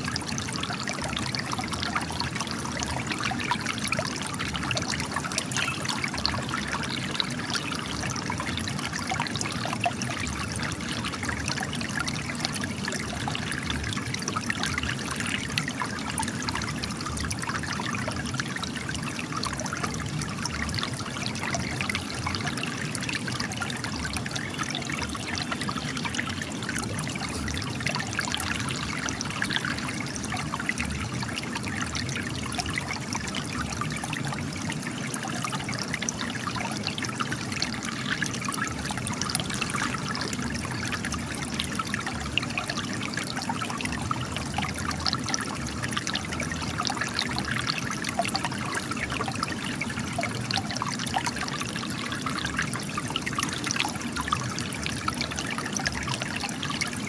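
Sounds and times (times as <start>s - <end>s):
water trickling and splashing on rocks: 0.0s - 57.0s.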